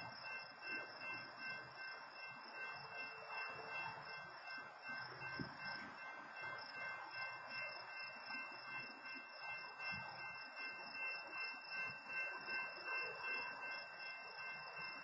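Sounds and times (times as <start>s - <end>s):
faint low train rumble: 0.0s - 15.0s
railroad crossing bell ringing: 0.0s - 15.0s.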